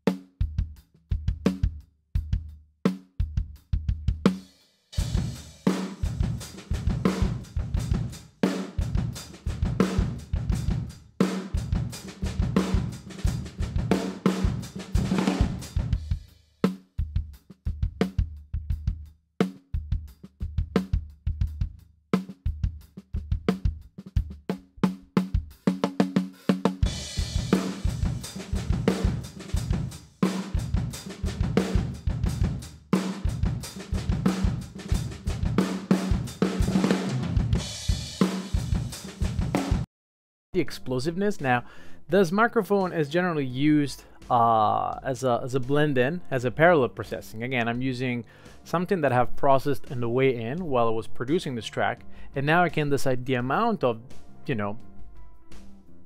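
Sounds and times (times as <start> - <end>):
drum kit playing: 0.0 - 39.9, 42.2 - 48.0.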